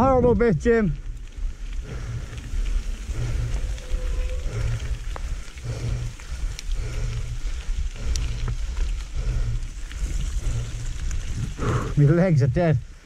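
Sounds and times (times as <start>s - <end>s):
mountain bike rumble on trail: 0.0s - 13.0s
bike clicks and rattles: 0.9s - 12.0s.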